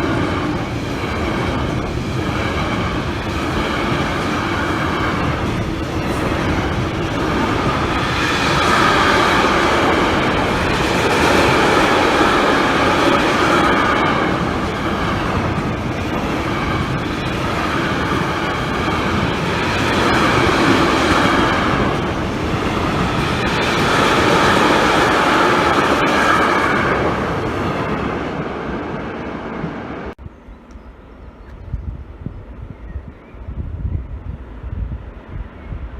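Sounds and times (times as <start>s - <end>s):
train wheels rolling over rails: 0.0s - 30.2s.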